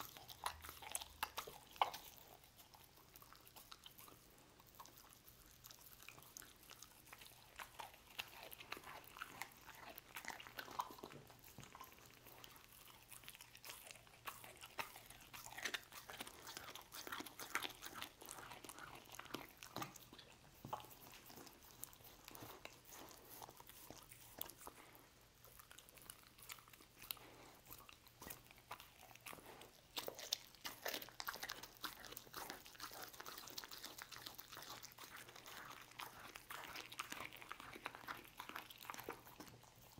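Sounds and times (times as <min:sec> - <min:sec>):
dog chewing meat: 0:00.0 - 0:39.9.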